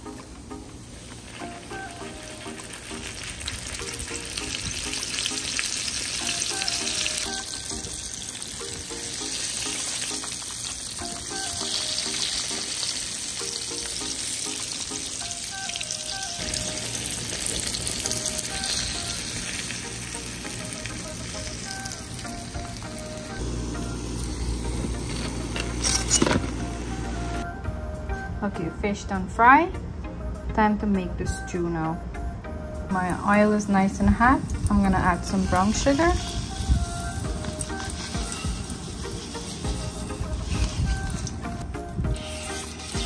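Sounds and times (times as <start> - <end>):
background music: 0.0 - 43.0
fish frying in hot oil: 1.0 - 27.4, 34.5 - 43.0.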